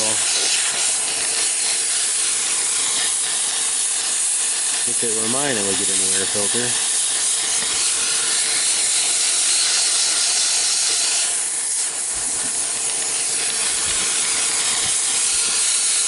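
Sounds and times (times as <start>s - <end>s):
compressed air blow gun hissing: 0.0s - 16.0s.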